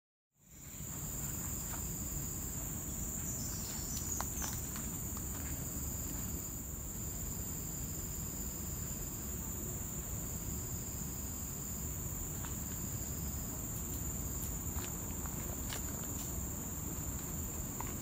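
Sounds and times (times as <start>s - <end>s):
insects droning high: 0.4s - 18.0s
lower insect trill: 0.4s - 18.0s.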